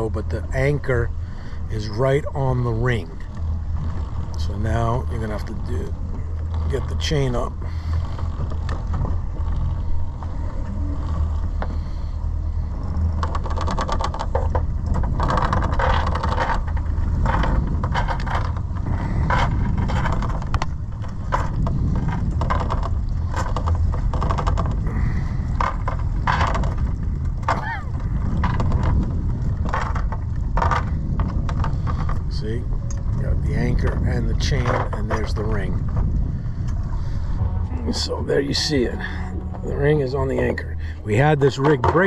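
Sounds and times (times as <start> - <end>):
anchor chain scraping and clattering: 0.0 - 37.4
low rumble: 0.0 - 42.0.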